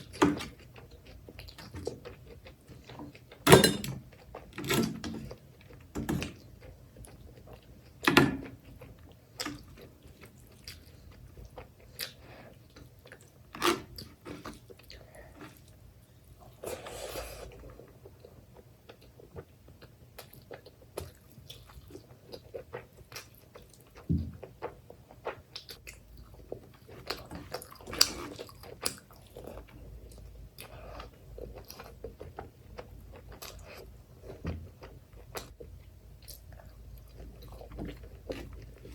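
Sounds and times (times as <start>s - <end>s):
close chewing and mouth clicks: 0.0s - 3.4s, 5.2s - 15.8s, 16.6s - 38.9s.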